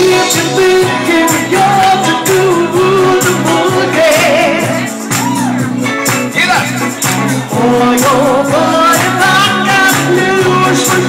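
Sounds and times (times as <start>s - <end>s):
bass line: 0.0s - 11.0s
live band playing: 0.0s - 11.0s
person singing: 0.0s - 11.0s.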